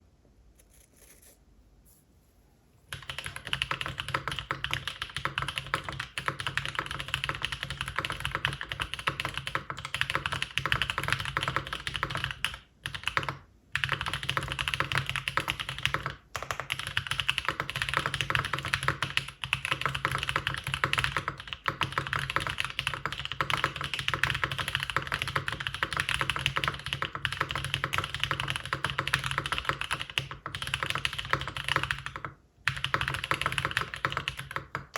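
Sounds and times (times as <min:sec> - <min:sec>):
typing on mechanical keyboard: 0:02.9 - 0:34.9.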